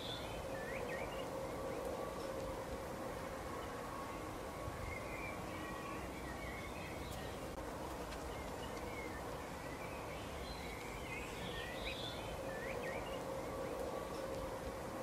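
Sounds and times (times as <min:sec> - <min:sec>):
faint steady hum: 0:00.0 - 0:15.0
songbirds chirping: 0:00.0 - 0:15.0
steady background hiss: 0:00.0 - 0:15.0.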